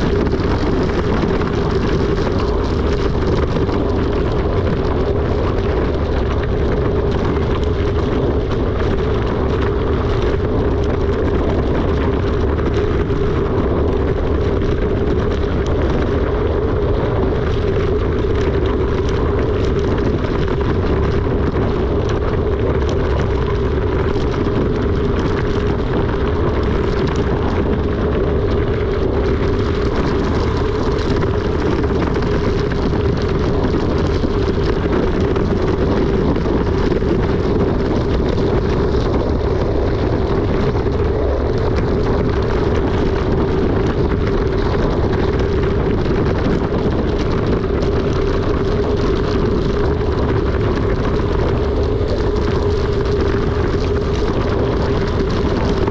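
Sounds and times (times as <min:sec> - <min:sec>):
bike clicks and rattles: 0:00.0 - 0:55.9
constant hum: 0:00.0 - 0:55.9
wind and tyre rush: 0:00.0 - 0:55.9.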